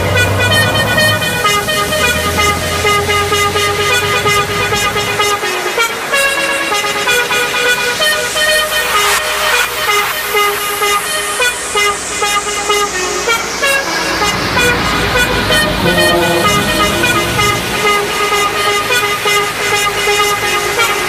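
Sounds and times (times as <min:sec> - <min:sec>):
diesel truck rumbling past: 0:00.0 - 0:21.0
truck air horns: 0:00.0 - 0:21.0.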